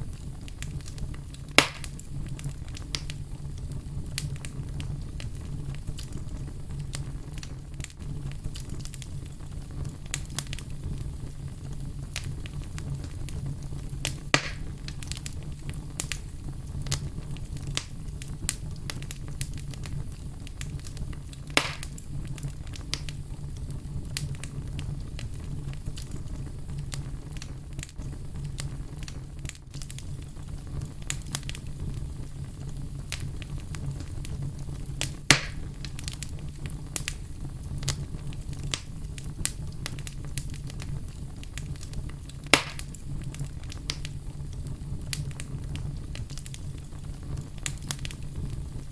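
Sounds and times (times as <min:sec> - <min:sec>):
fire crackling and popping: 0:00.0 - 0:48.9.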